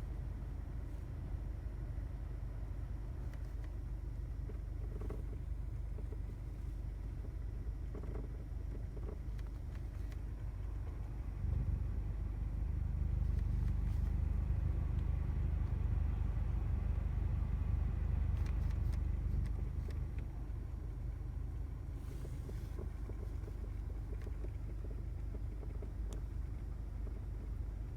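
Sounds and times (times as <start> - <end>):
air conditioner drone: 0.0 - 27.9.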